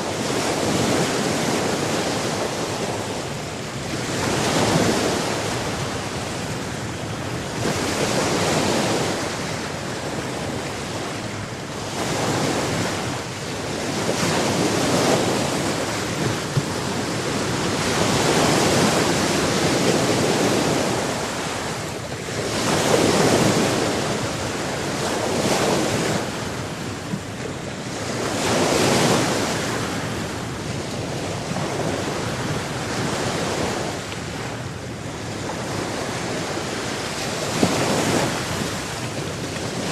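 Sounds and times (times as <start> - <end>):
ocean waves breaking: 0.0 - 39.9
wind buffeting microphone: 0.0 - 39.9.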